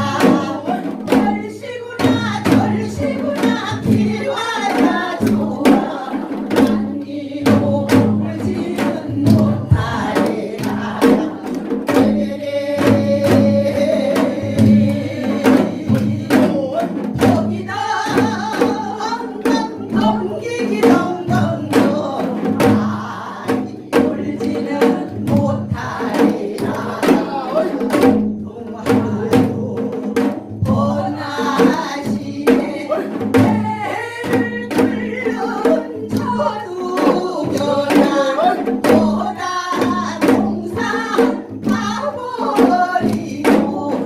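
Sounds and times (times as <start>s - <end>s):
upbeat sung backing song: 0.0s - 44.0s.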